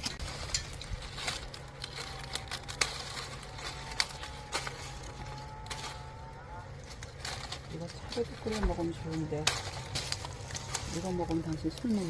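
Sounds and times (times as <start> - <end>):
twigs snapping: 0.0 - 12.0.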